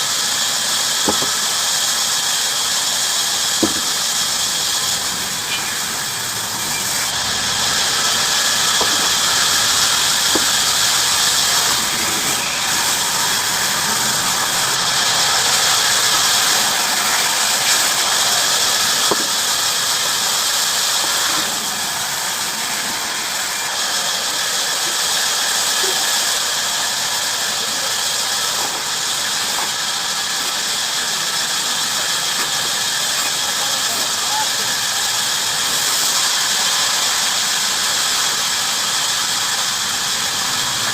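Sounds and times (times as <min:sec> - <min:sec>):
bandsaw cutting wood: 0:00.0 - 0:40.9.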